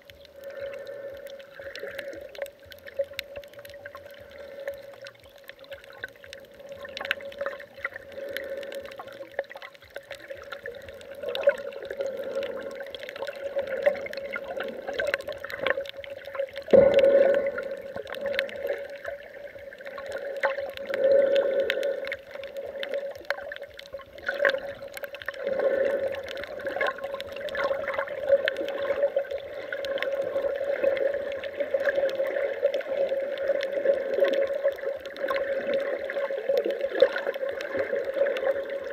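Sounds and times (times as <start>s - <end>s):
crackling clicks: 0.0s - 38.9s
underwater water sloshing: 0.0s - 38.9s.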